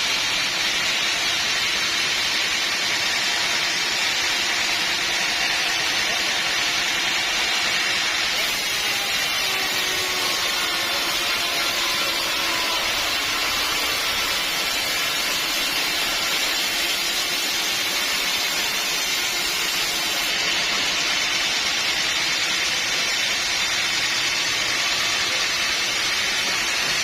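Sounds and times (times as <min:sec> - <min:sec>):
sawmill saw hissing: 0:00.0 - 0:27.0.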